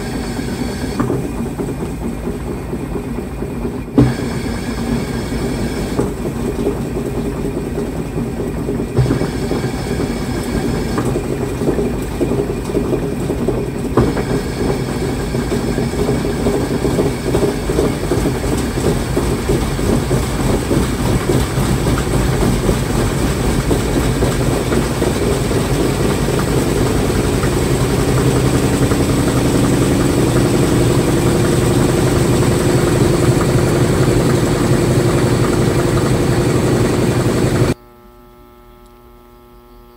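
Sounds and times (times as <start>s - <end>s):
washing machine churning: 0.0s - 37.8s
washing machine knocks: 0.0s - 37.8s
steady hum: 0.0s - 39.9s.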